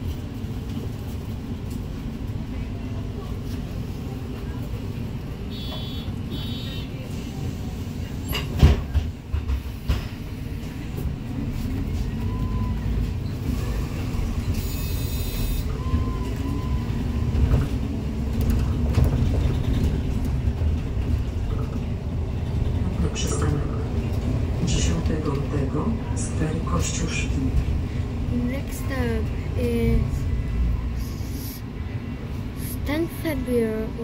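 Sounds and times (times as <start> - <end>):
bus engine and road rumble: 0.0 - 34.0.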